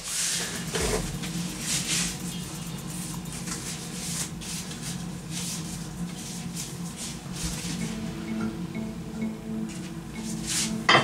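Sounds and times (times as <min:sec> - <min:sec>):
low steady hum: 0:00.6 - 0:11.0.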